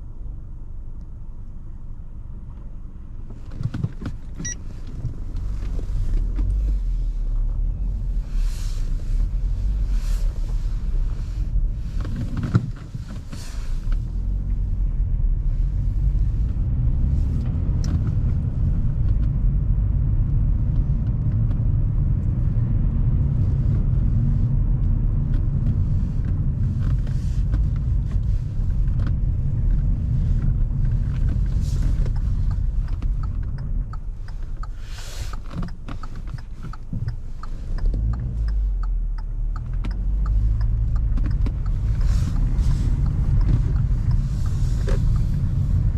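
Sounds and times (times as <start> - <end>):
car engine and road rumble: 0.0 - 45.9.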